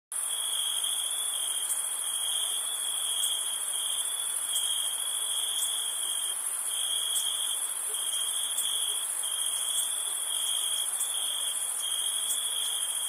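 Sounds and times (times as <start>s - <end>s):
crickets trilling: 0.2s - 13.0s.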